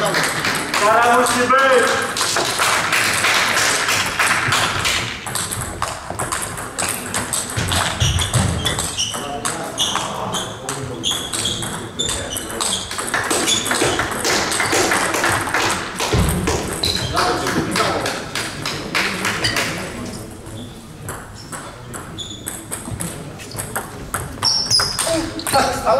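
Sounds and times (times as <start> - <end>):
table tennis balls clicking: 0.0 - 20.2, 21.0 - 25.9.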